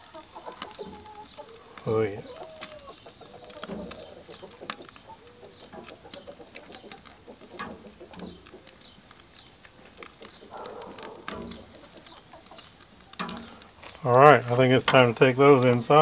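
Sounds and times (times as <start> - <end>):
tongs clicking on grill grate: 0.0 - 15.8.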